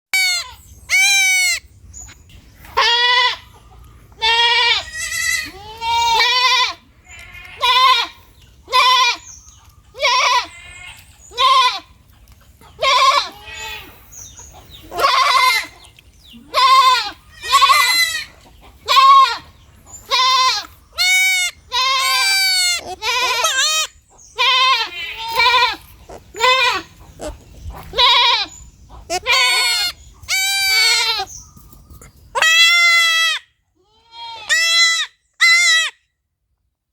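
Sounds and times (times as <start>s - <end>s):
baby goat bleating: 0.1s - 1.6s, 2.7s - 3.5s, 4.2s - 9.3s, 9.9s - 12.0s, 12.8s - 14.0s, 14.8s - 15.8s, 16.4s - 31.3s, 32.3s - 36.0s.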